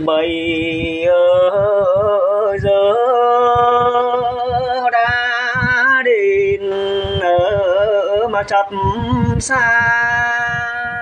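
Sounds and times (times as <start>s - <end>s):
low accompaniment beats: 0.0s - 11.0s.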